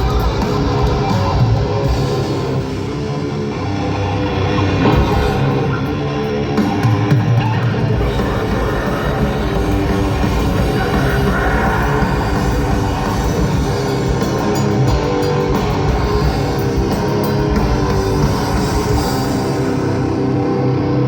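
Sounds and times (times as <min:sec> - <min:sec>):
death metal band playing: 0:00.0 - 0:21.0.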